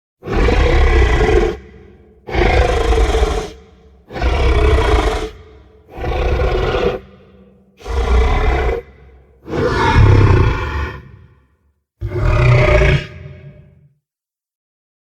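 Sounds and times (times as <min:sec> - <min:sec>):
deep rumbling monster roar: 0:00.2 - 0:13.8.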